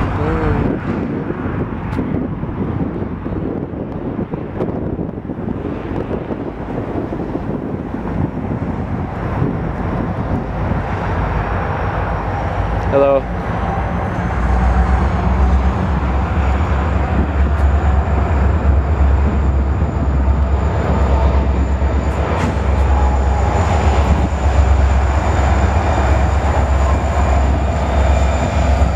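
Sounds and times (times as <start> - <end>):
diesel freight train rumbling: 0.0 - 28.9.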